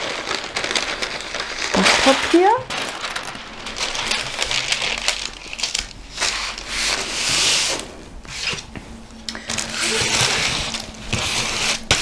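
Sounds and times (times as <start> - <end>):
baking paper crinkling: 0.0 - 8.7, 9.4 - 12.0.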